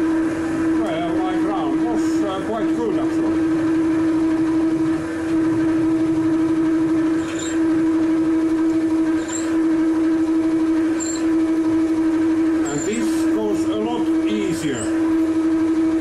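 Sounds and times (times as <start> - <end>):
drill droning in lathe: 0.0 - 16.0.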